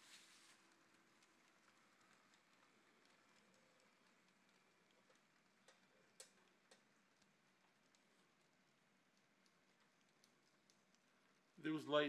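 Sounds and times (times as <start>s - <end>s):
faint ticks: 0.0s - 12.0s
soft hiss: 0.0s - 12.0s.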